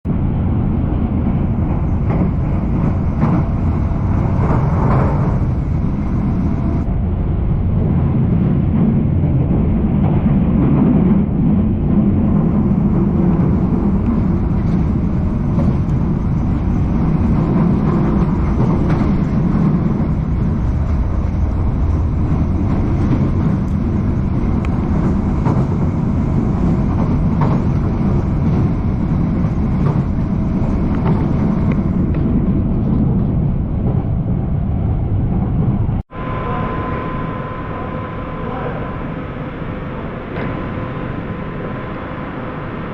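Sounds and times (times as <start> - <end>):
vehicle rumble in motion: 0.1 - 38.4.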